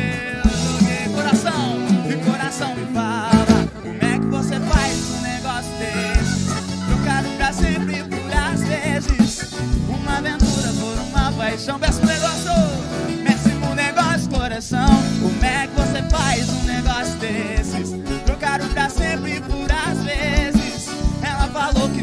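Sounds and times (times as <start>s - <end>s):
accordion: 0.0s - 22.0s
bass: 0.0s - 22.0s
drums and percussion beat: 0.0s - 22.0s
guitars: 0.0s - 22.0s
keyboard: 0.0s - 22.0s
wavering lead melody: 0.0s - 22.0s.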